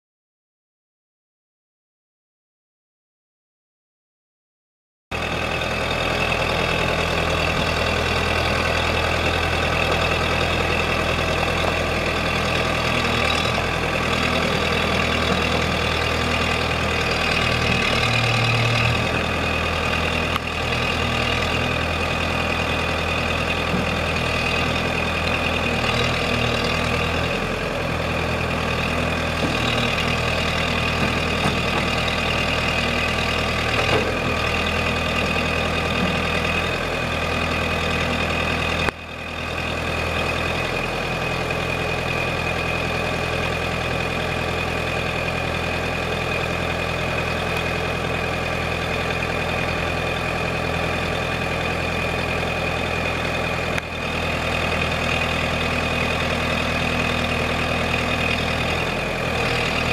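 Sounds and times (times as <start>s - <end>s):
diesel engine running steadily: 5.1s - 59.9s.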